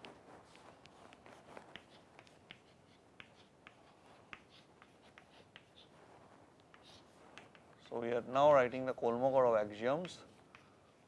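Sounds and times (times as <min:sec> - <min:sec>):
chalk tapping on a chalkboard: 0:00.0 - 0:06.0, 0:06.6 - 0:07.9, 0:08.7 - 0:11.0.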